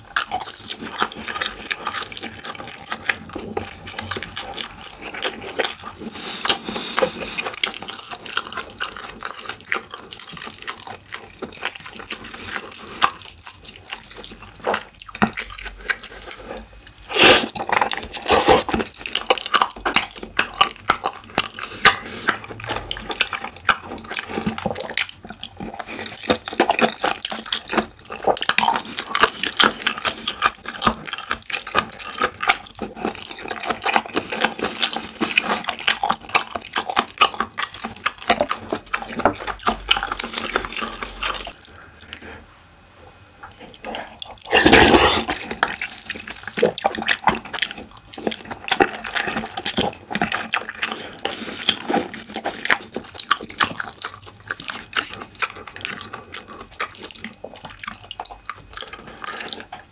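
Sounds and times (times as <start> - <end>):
wet chewing and smacking: 0.0 - 42.5, 43.4 - 59.9.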